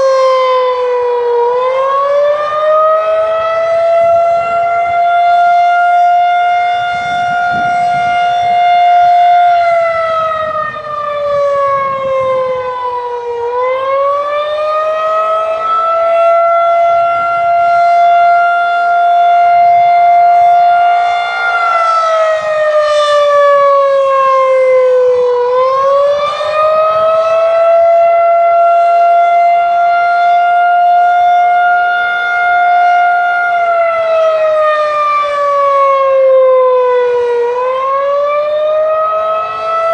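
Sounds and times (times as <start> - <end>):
wavering tornado siren: 0.0 - 39.9.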